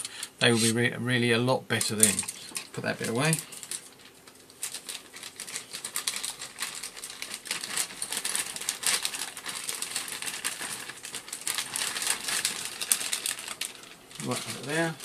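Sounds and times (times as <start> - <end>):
plastic bags crinkling: 1.8 - 15.0.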